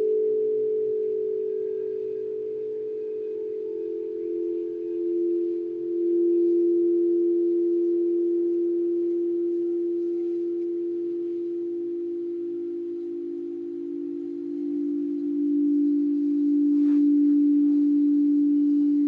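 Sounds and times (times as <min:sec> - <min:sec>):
crystal singing bowl ringing: 0:00.0 - 0:19.0.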